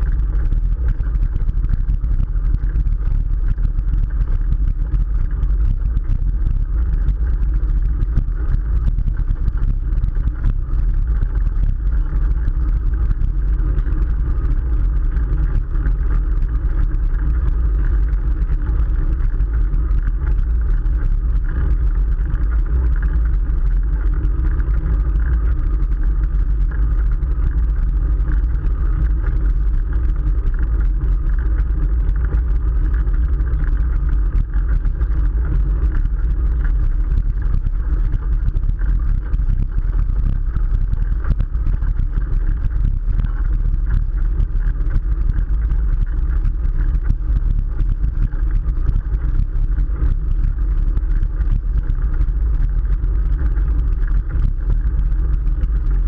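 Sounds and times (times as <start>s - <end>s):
bicycle tyre road noise: 0.0s - 56.0s
wind rush on microphone: 0.0s - 56.0s.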